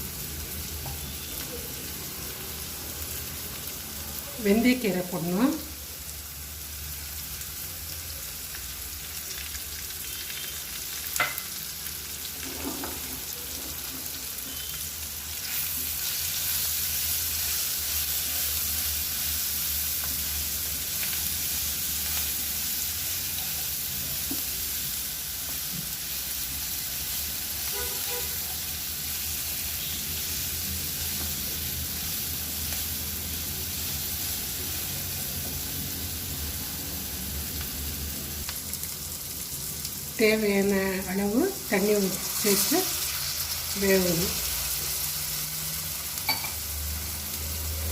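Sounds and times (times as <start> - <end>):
vegetables sizzling in oil: 0.0 - 47.9.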